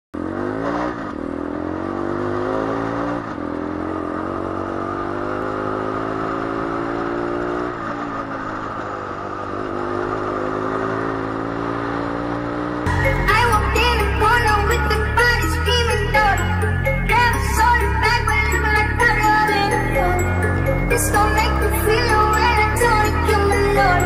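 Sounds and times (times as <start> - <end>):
motorcycle engine accelerating: 0.2 - 24.0.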